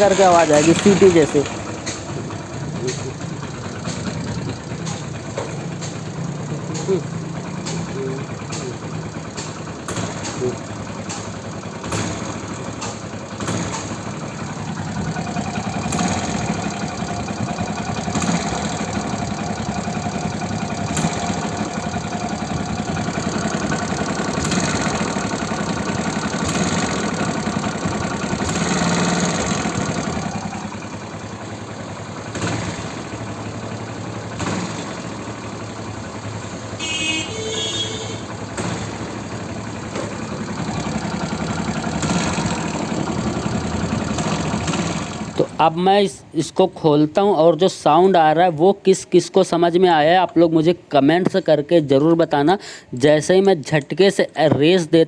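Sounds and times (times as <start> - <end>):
motorcycle engine revving: 0.0 - 45.8.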